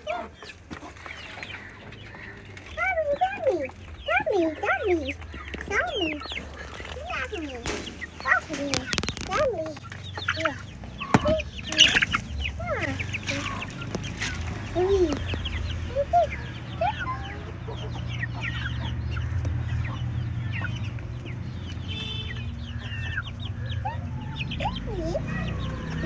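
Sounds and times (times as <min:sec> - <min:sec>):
chickens clucking and peeping: 0:00.0 - 0:26.0.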